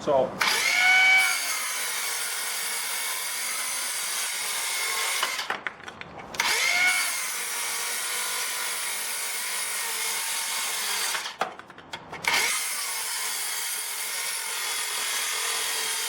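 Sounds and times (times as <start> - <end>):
circular saw cutting wood: 0.4 - 5.5, 6.4 - 11.4, 12.2 - 16.0.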